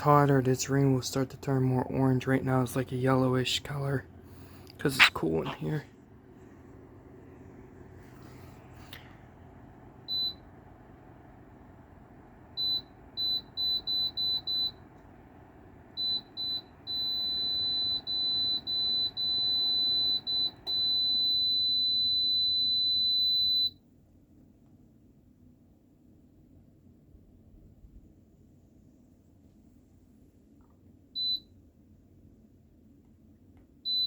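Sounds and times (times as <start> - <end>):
heater fan noise: 0.0 - 34.0.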